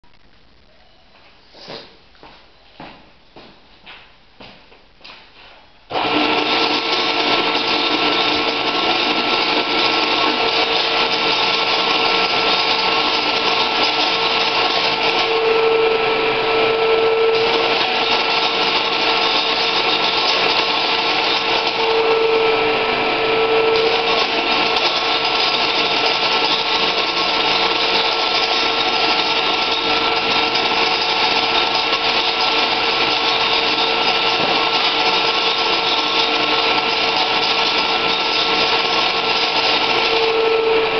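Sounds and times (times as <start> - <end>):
metal curling machine humming: 5.9 - 40.9.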